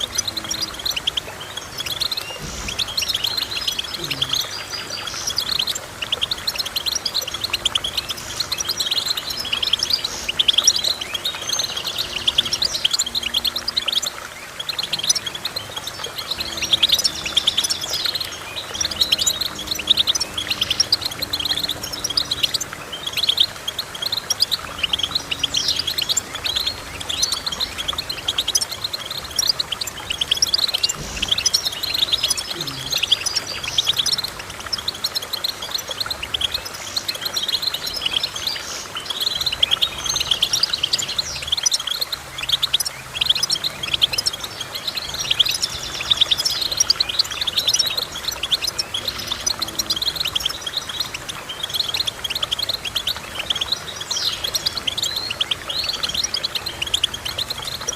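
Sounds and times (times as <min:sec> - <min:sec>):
finches chirping and trilling: 0:00.0 - 0:57.9.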